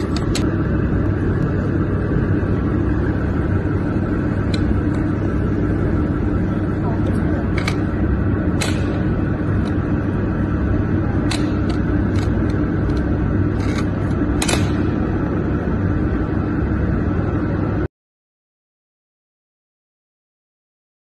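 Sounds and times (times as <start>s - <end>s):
workshop machine hum: 0.0s - 17.9s.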